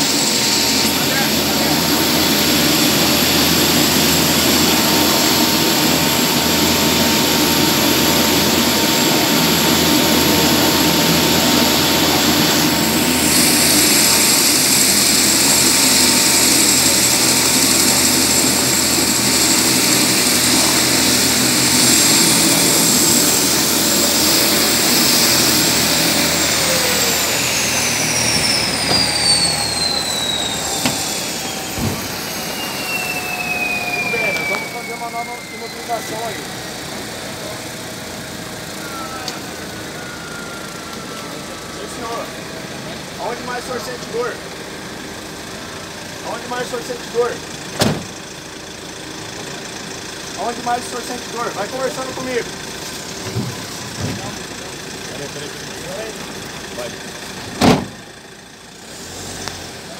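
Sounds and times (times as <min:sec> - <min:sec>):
turbine engine whine and rush: 0:00.0 - 0:59.9.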